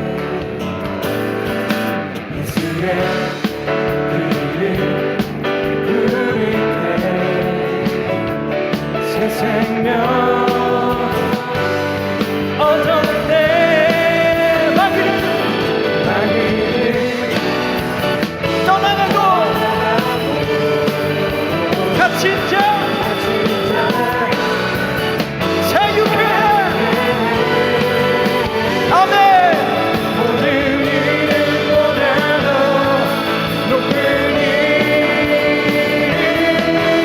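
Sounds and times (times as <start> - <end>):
instrumental accompaniment: 0.0 - 37.0
person singing worship song: 2.2 - 37.0.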